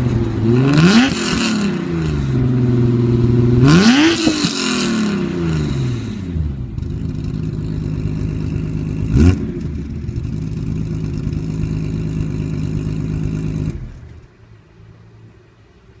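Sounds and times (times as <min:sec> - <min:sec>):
car engine idling: 0:00.0 - 0:03.8, 0:04.4 - 0:16.0.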